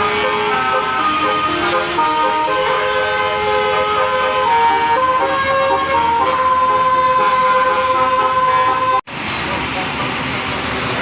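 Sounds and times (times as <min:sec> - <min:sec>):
bus musical horn melody: 0:00.0 - 0:09.0.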